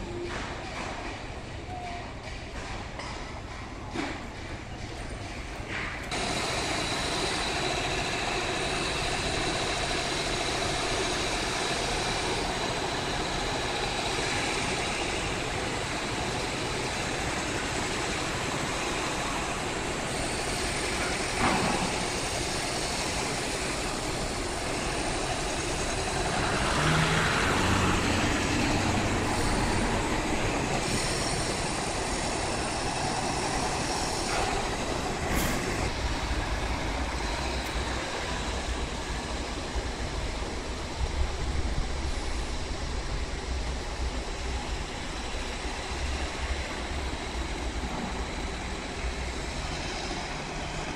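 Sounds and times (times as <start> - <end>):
lorry engines running: 0.0 - 50.9
roadside traffic noise: 0.0 - 50.9.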